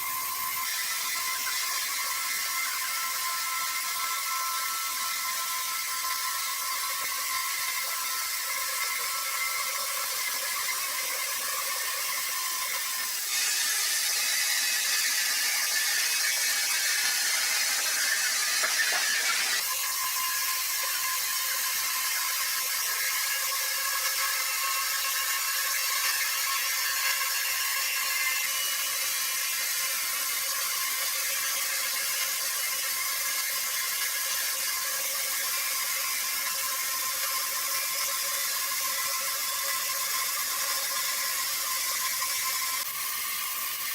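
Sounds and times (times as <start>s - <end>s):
sawmill machinery whirring: 0.0s - 43.9s.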